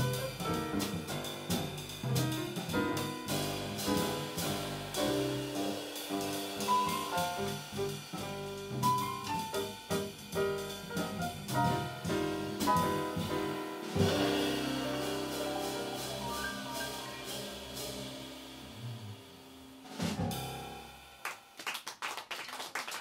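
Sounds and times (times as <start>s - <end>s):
jazz piano trio playing: 0.0s - 21.1s.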